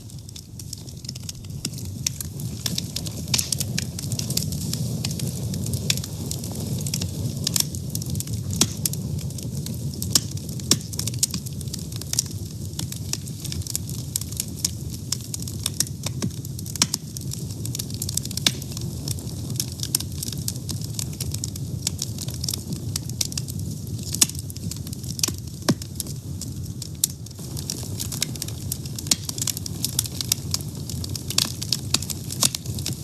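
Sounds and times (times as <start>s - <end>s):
fire crackling and popping: 0.0s - 33.0s
low rush of flame: 0.0s - 33.0s.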